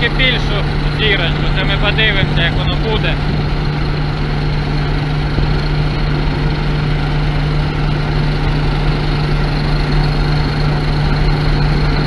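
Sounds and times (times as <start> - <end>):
combine harvester humming: 0.0 - 12.0.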